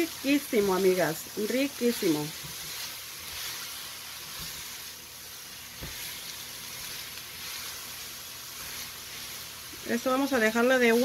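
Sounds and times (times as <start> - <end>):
spatula stirring: 0.0 - 11.0
vegetables sizzling in a skillet: 0.0 - 11.0.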